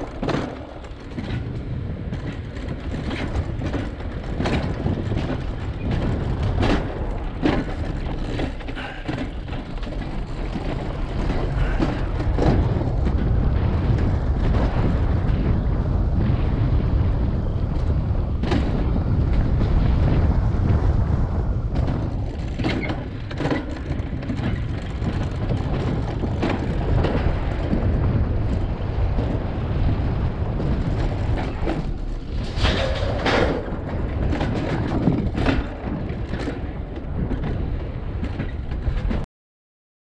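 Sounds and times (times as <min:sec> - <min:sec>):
coaster sled rumbling on rails: 0:00.0 - 0:39.3.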